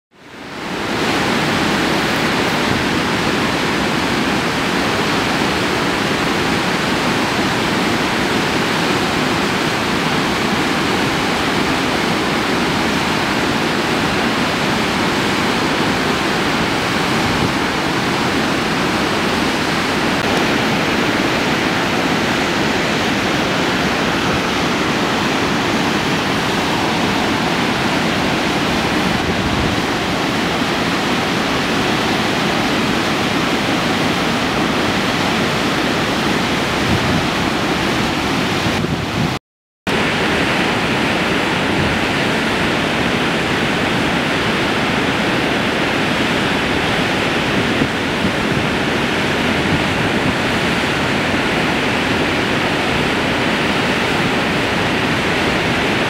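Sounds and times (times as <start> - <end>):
waterfall rushing: 0.1 - 56.0.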